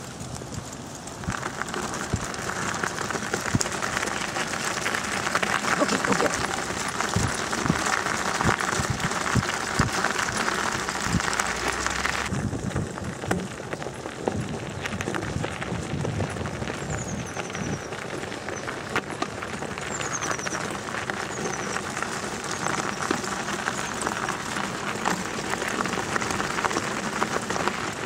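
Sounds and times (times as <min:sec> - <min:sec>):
wheels crunching on gravel: 0:00.0 - 0:28.0.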